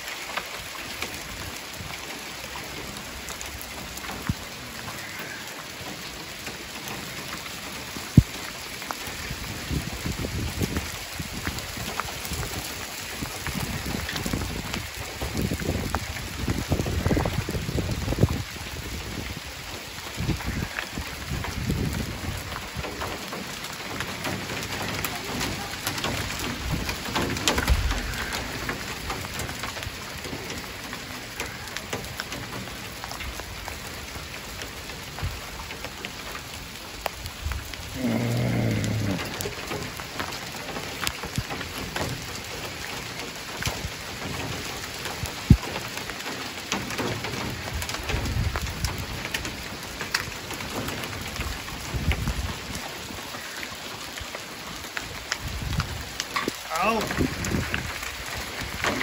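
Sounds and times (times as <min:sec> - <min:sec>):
hail pattering on surfaces: 0:00.0 - 0:59.0.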